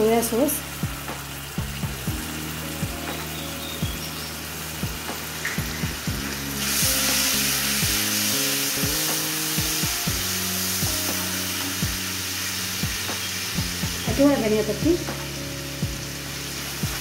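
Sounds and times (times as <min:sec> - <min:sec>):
sauce sizzling in hot oil: 0:00.0 - 0:17.0.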